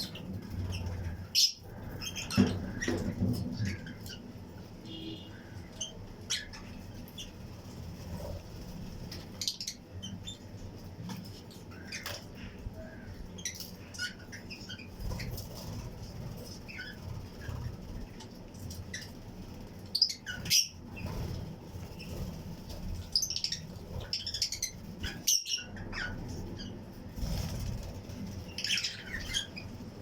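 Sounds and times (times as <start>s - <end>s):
lovebirds chirping: 0.0s - 29.8s.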